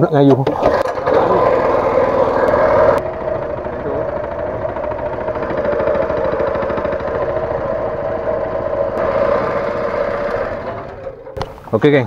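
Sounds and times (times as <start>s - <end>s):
outboard motor running: 0.5s - 11.5s.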